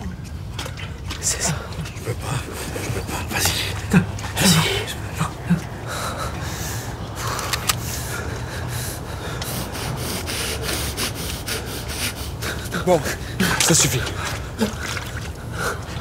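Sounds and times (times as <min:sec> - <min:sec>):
steady low hum: 0:00.0 - 0:16.0
man breathing heavily: 0:01.5 - 0:16.0.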